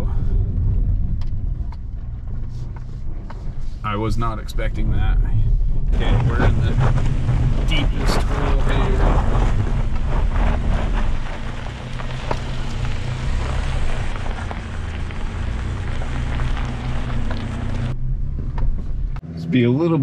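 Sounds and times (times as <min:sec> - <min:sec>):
dense crackling noise: 0:00.0 - 0:19.2
truck engine running at low revs: 0:00.0 - 0:19.2.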